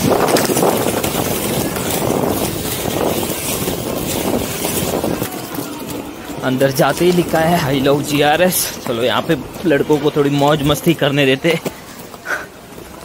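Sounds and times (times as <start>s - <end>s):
skate wheels rolling on pavement: 0.0s - 13.0s.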